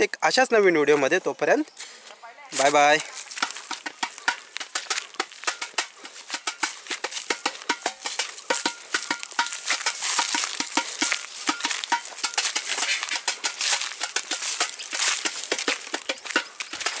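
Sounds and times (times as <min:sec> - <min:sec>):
dry leaves and twigs crunching: 0:00.9 - 0:17.0.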